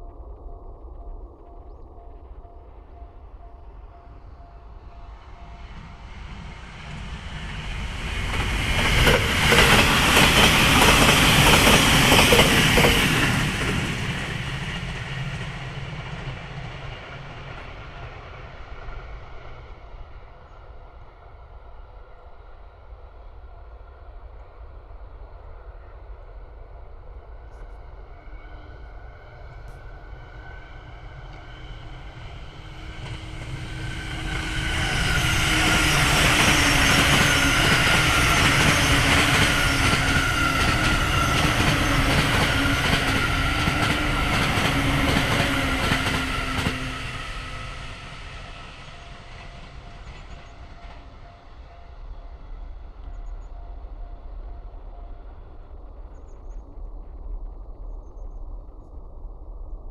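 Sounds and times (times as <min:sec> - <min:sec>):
second train approaching: 0:00.0 - 0:56.3
electric train passing: 0:00.0 - 0:56.6.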